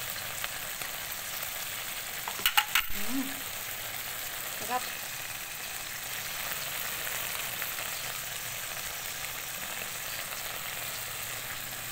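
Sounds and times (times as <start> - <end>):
sauce bubbling: 0.0 - 11.9
stir-fry sizzling in a wok: 0.0 - 11.9.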